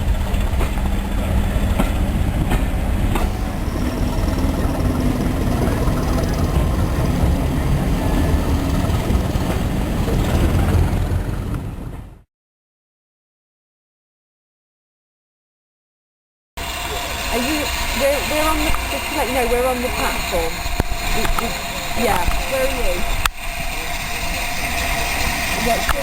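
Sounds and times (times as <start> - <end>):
wheels clicking on track: 0.0 - 12.2, 16.6 - 26.0
train rumbling on railway: 0.0 - 12.3, 16.6 - 26.0.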